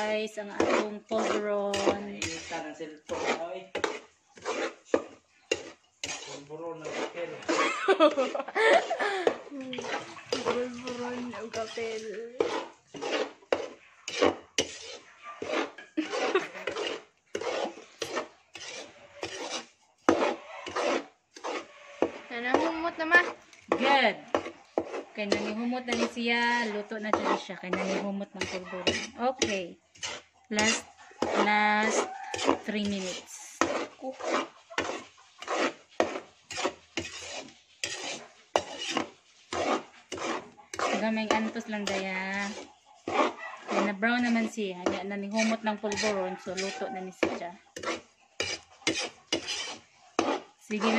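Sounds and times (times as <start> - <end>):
metal spoon scraping flour in pan: 0.0 - 50.9.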